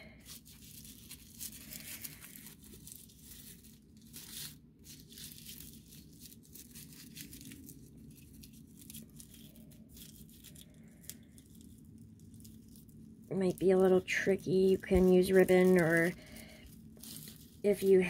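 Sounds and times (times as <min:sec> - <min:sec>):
raffia rustling and crinkling: 0:00.0 - 0:18.0.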